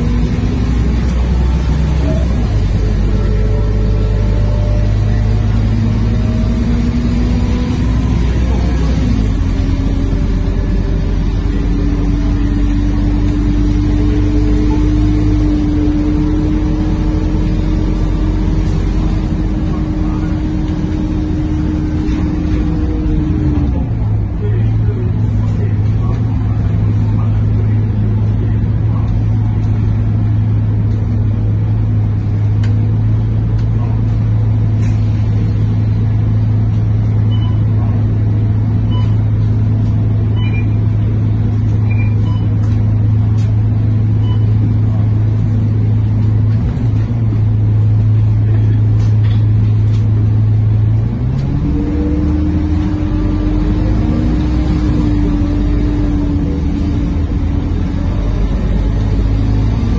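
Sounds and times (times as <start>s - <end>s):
bus diesel engine drone: 0.0s - 59.9s
drivetrain whine: 0.0s - 59.9s.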